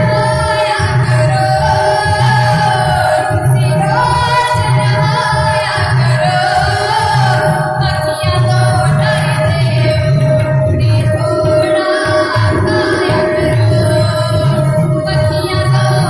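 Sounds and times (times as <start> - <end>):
held drone note: 0.0 - 16.0
low pulsing accompaniment: 0.0 - 16.0
woman singing: 0.0 - 16.0.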